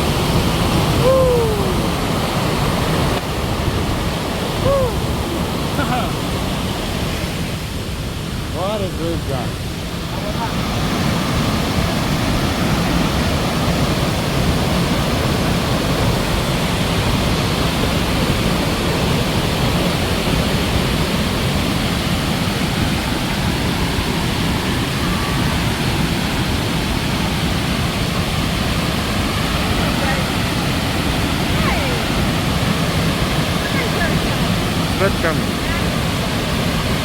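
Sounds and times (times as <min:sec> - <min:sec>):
waterfall crashing: 0:00.0 - 0:37.0.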